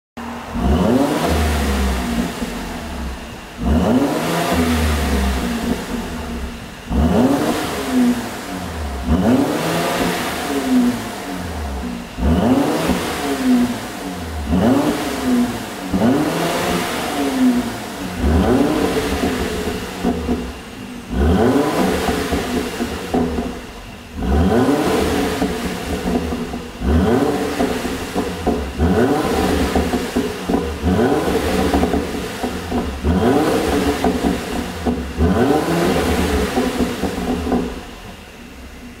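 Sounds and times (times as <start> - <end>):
car engine revving: 0.2 - 39.0
exhaust pops and crackles: 2.0 - 38.2.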